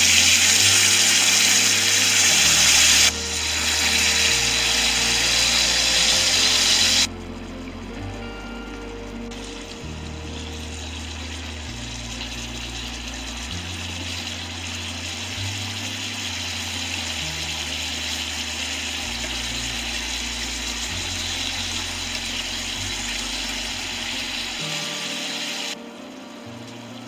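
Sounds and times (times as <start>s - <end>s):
pork sizzling in frying pan: 0.0s - 7.1s, 10.4s - 25.8s.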